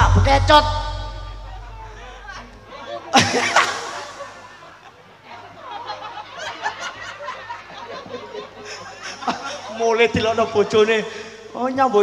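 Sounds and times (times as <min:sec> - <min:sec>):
audience laughing and chattering: 0:00.0 - 0:12.0.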